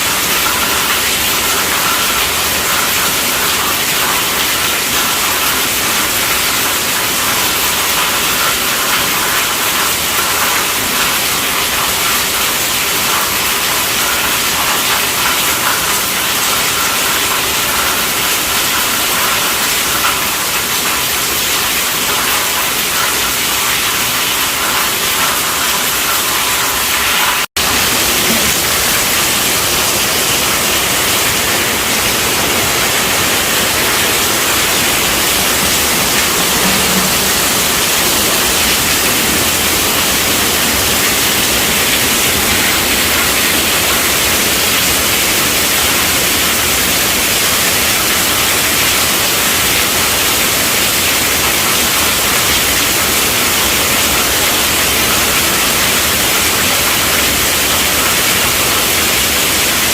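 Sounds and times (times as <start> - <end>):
heavy rain on a tent roof: 0.0 - 59.9.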